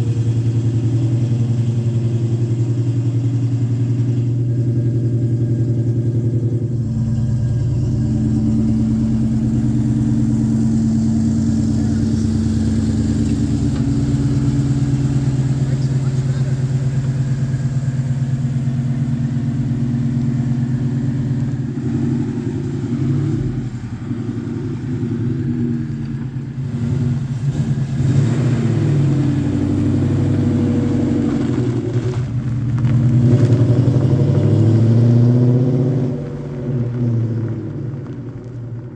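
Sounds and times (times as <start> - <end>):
car engine revving under way: 0.0 - 38.9.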